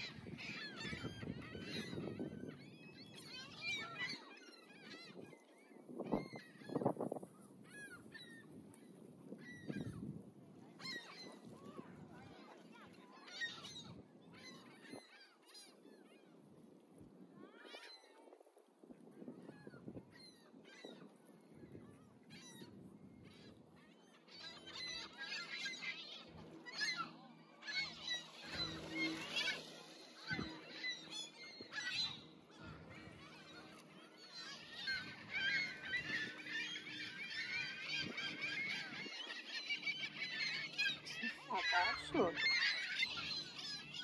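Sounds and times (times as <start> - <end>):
waterbirds calling: 0.0 - 10.1, 10.7 - 18.4, 19.0 - 44.0.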